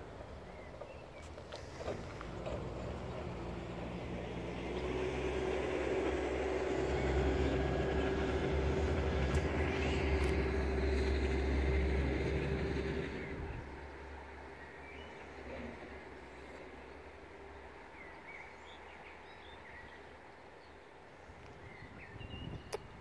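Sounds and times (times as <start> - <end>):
diesel train engine droning: 0.0 - 19.2.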